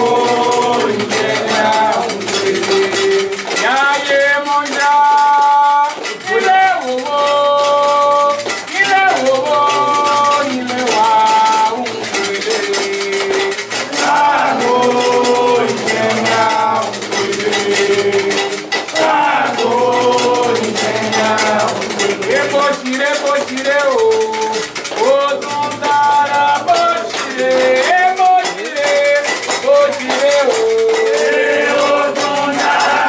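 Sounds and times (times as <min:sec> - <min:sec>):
shakers and metal percussion rattling: 0:00.0 - 0:33.0
voices chanting long held notes: 0:00.0 - 0:33.0.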